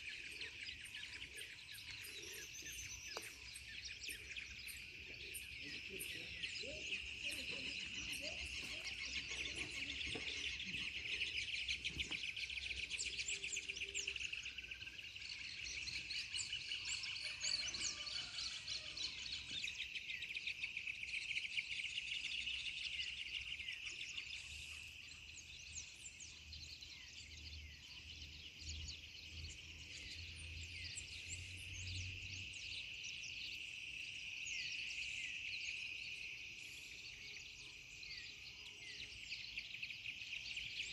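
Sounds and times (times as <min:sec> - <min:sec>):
birds chirping and singing: 0:00.0 - 0:40.9
insects trilling: 0:00.0 - 0:40.9.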